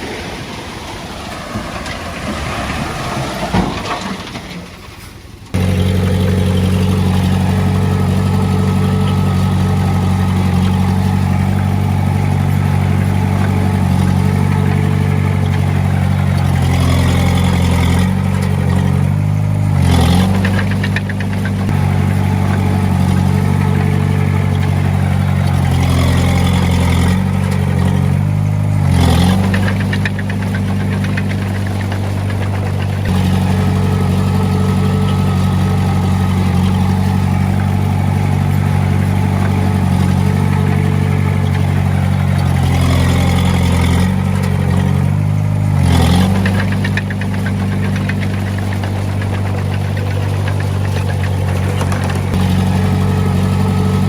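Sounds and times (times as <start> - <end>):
brief engine clatter: 0.0 - 54.0
bulldozer diesel engine running: 0.0 - 54.0.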